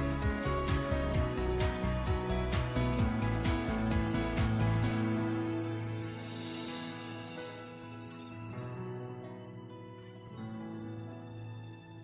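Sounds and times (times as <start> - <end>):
instrumental music with steady beat: 0.0 - 10.8.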